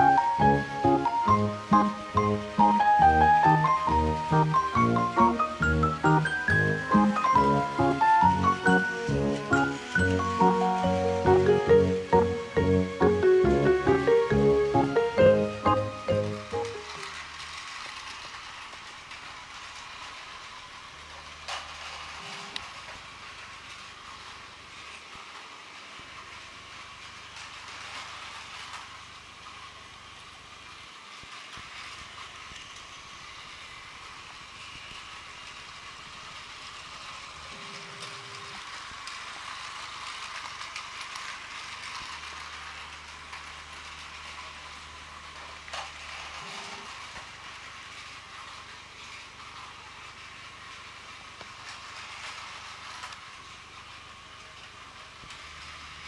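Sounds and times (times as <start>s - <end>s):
toy train motor whirring: 0.0s - 56.0s.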